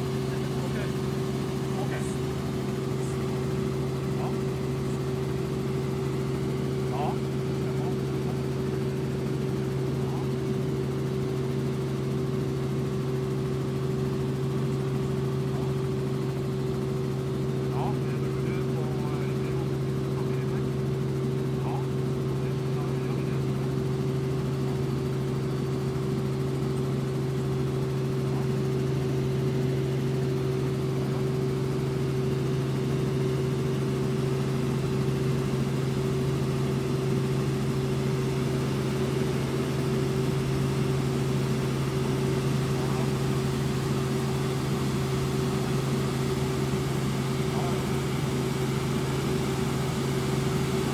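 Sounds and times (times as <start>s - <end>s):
helicopter engine and rotors drone: 0.0s - 50.9s.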